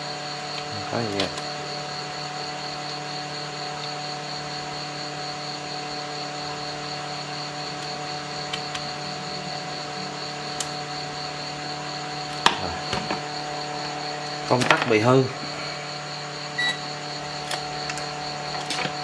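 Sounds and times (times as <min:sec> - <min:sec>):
motor-like hum: 0:00.0 - 0:19.0
faint high whine: 0:00.6 - 0:19.0.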